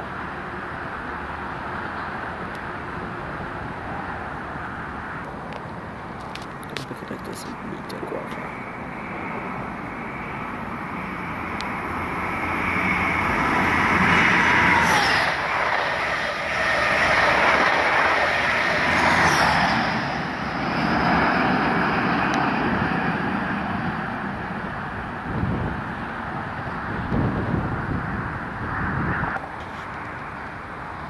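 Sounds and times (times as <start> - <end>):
high-speed diesel train passing: 0.0 - 31.0.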